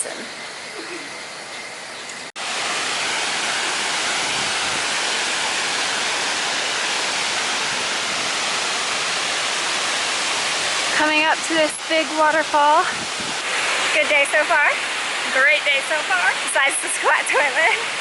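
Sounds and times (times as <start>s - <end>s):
waterfall rushing: 2.3s - 18.0s.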